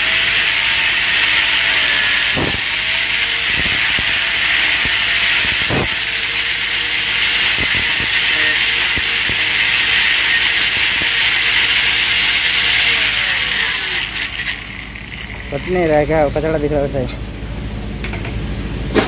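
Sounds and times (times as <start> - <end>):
angle grinder grinding metal: 0.0 - 17.1.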